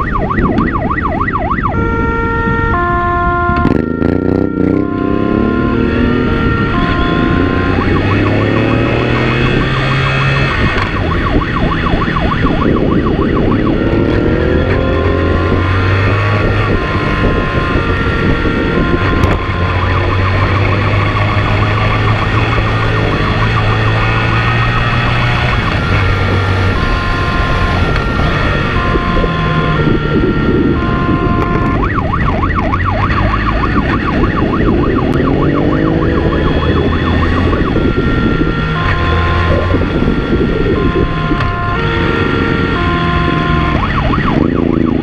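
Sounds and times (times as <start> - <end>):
emergency vehicle siren: 0.0 - 45.0
engine revving: 0.0 - 45.0
road noise: 0.0 - 45.0.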